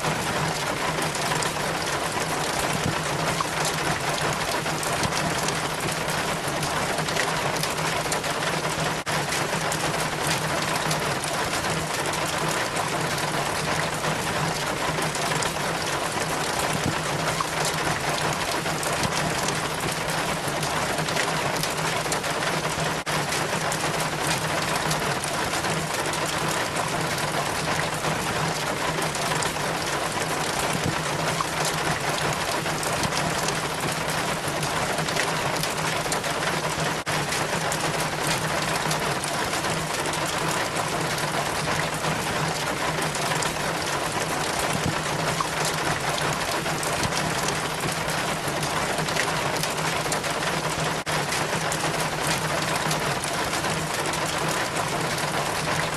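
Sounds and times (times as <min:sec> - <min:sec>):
rainwater trickling down rain chain: 0:00.0 - 0:55.9.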